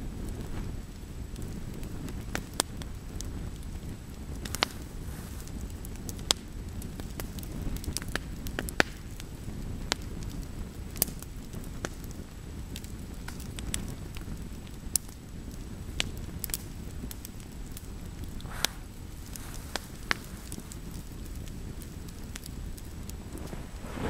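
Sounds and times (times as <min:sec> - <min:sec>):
fire popping and crackling: 0:00.0 - 0:24.0
fire rumbling: 0:00.0 - 0:24.0.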